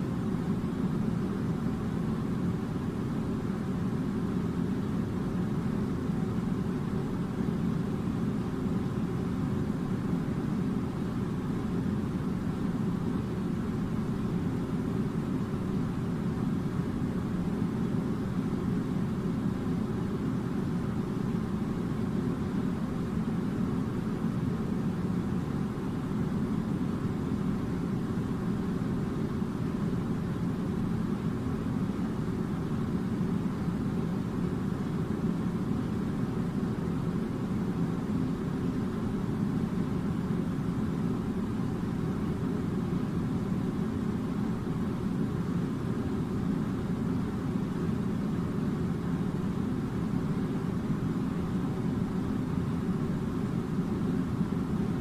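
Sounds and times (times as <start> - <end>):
low rumbling machinery hum: 0.0 - 55.0.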